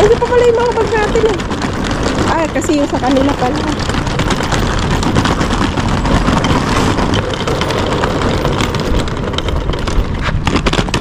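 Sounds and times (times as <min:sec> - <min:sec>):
suitcase wheels rattling on bricks: 0:00.0 - 0:11.0.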